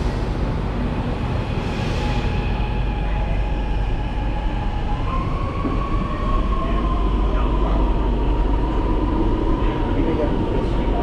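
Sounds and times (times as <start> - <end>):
train rumbling and whining: 0.0 - 11.0.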